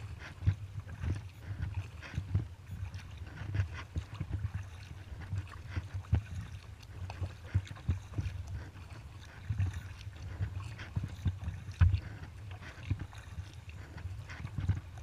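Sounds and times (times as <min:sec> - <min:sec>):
water splashing against hull: 0:00.0 - 0:15.0.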